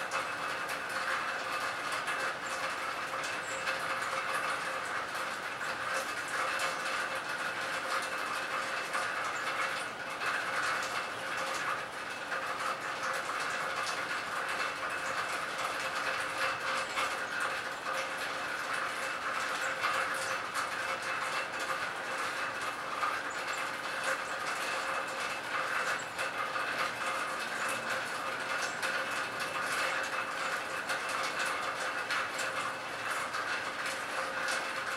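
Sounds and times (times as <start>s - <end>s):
rain falling on water: 0.0s - 34.9s.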